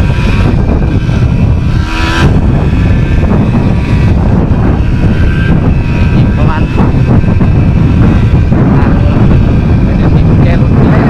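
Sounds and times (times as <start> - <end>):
two-stroke motorcycle engine: 0.0 - 11.0
wind buffeting microphone: 0.0 - 11.0.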